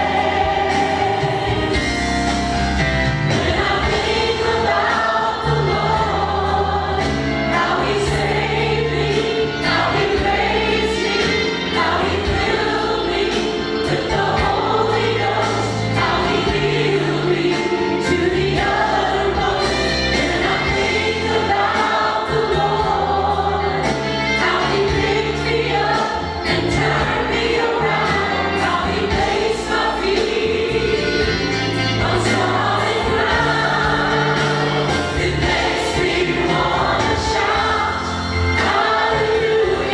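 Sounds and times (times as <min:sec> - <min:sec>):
choir singing gospel song: 0:00.0 - 0:39.9
instrumental backing with beat: 0:00.0 - 0:39.9.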